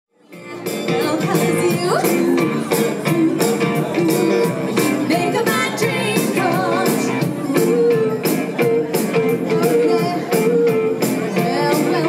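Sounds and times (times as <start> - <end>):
guitar and keyboards: 0.2 - 12.0
drum beat: 0.7 - 12.0
woman singing: 0.9 - 12.0.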